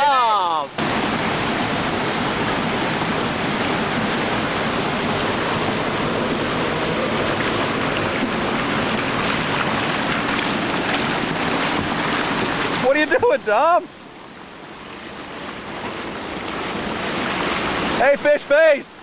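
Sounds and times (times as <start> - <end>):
whitewater rapid roaring: 0.0 - 19.0.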